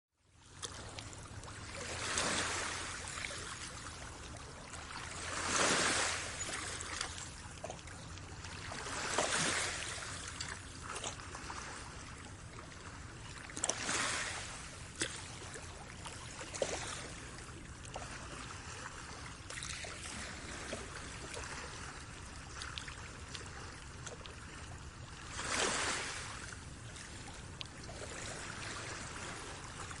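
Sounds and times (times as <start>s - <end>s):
water rushing along boat hull: 0.4s - 30.0s.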